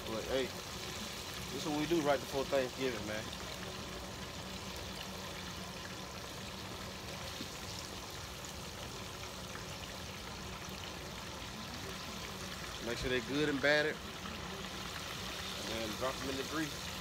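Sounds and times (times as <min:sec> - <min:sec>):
deep fryer sizzling and bubbling: 0:00.0 - 0:17.0.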